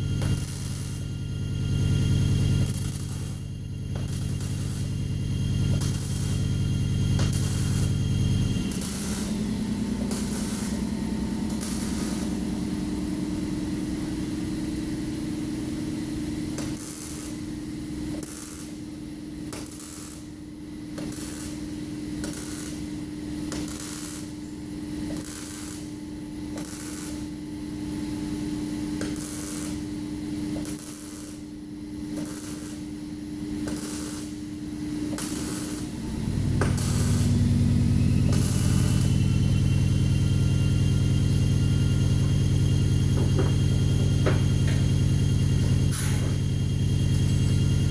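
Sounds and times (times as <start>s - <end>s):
steady hum: 0.0s - 26.6s, 27.2s - 47.9s
welder arc hissing and crackling: 0.0s - 47.9s.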